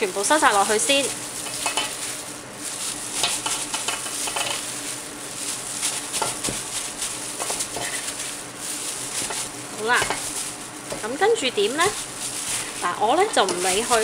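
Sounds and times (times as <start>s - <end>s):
gloved hands rustling: 0.1s - 14.0s.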